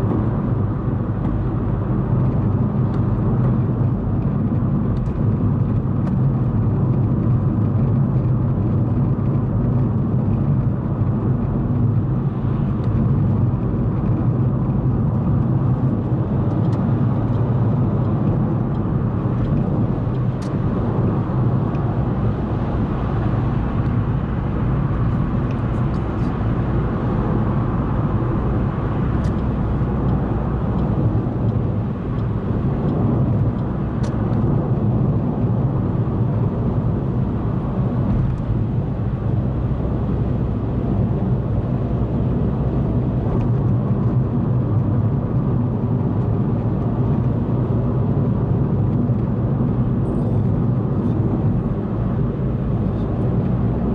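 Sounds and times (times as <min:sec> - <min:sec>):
car engine and tyre road noise: 0:00.0 - 0:53.9.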